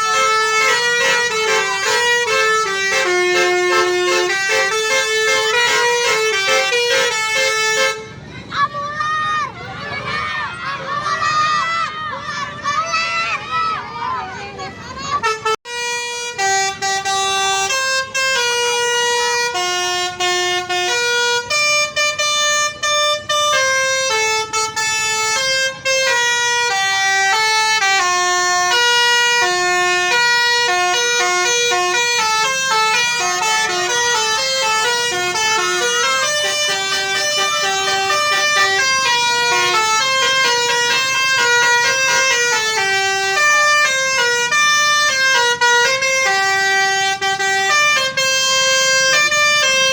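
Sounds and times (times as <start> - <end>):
bus horn playing melody: 0.0 - 8.2, 15.0 - 49.9.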